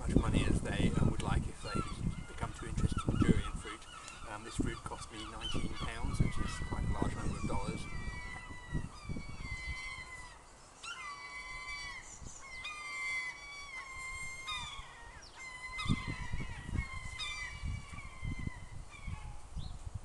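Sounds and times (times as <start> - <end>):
bird calling: 0.0 - 19.8.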